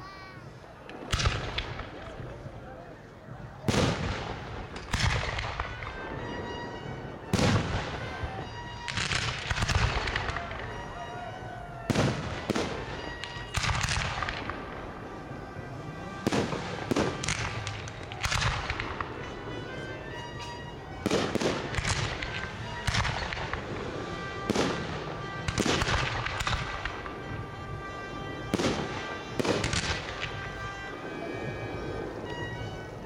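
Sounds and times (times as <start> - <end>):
fireworks bursting with echo: 0.3 - 33.0.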